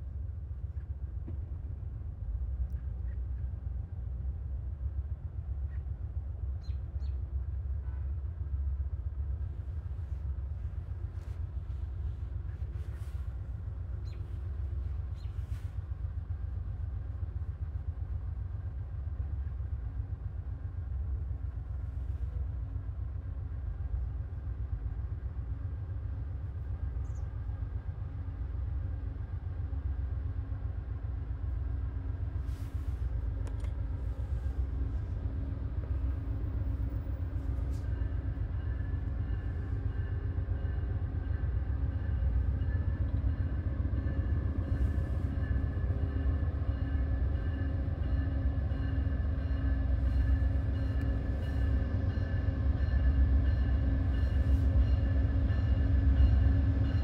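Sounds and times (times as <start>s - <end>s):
diesel train rumbling: 0.0s - 57.0s.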